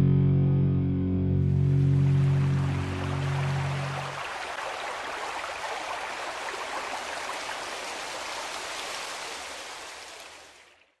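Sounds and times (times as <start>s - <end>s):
waterfall rushing: 1.5s - 10.6s.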